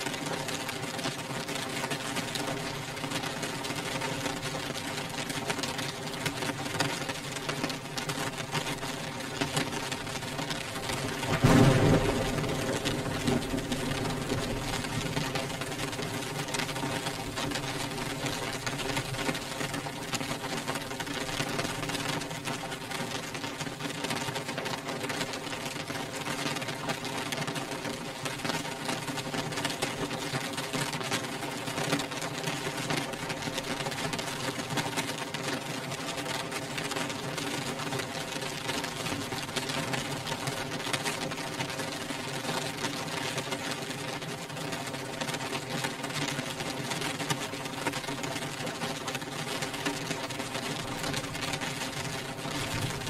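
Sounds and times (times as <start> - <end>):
rain on window glass: 0.0 - 53.0.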